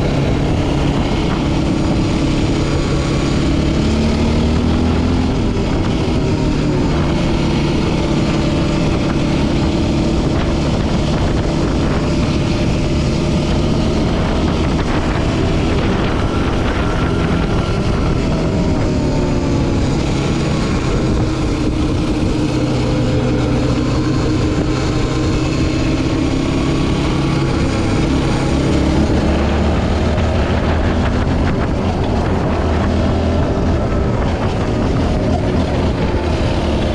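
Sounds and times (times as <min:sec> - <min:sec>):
quad engine running: 0:00.0 - 0:36.9.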